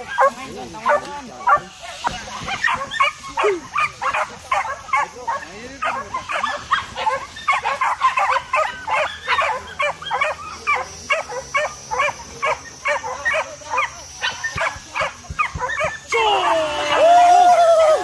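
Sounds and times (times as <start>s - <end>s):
dogs yelping: 0.0s - 18.0s.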